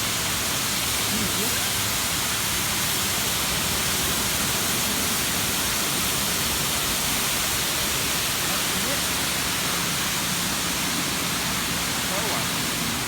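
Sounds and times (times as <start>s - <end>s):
water jets spraying car body: 0.0s - 13.0s.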